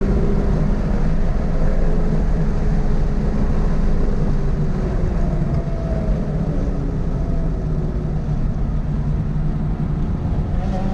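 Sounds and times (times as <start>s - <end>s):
car engine and road noise: 0.0s - 10.9s.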